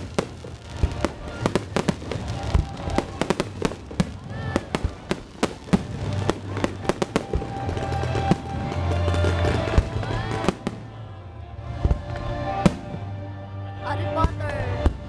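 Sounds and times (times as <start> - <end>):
fireworks bangs and crackling: 0.0 - 13.2, 14.1 - 15.0
music: 0.0 - 15.0.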